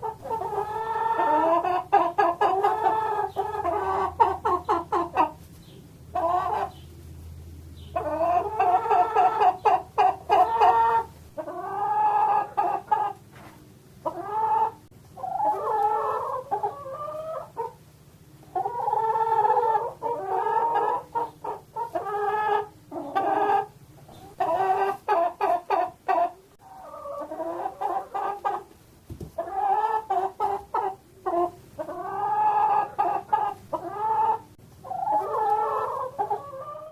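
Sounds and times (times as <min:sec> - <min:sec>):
chickens clucking and squawking: 0:00.0 - 0:36.9.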